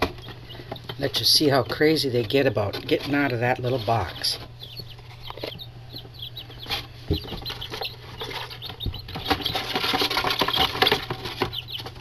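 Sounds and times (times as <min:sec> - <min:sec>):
chick feet scratching in box: 0:00.0 - 0:12.0
chicks peeping: 0:00.0 - 0:12.0.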